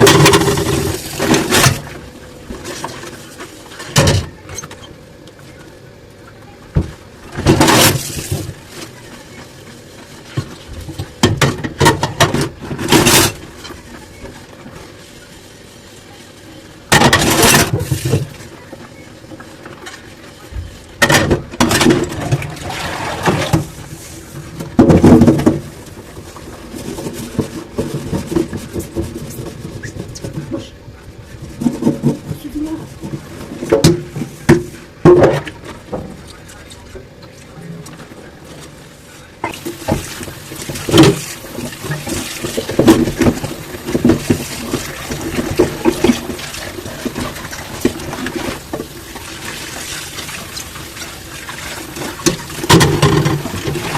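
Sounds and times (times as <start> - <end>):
dishes and water at sink: 0.0 - 4.9, 6.4 - 15.0, 16.8 - 37.0, 39.4 - 53.9.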